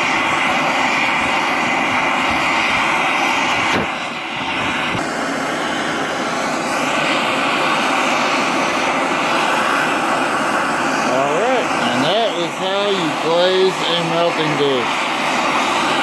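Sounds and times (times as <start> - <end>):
gas torch flame blowing: 0.0 - 16.0.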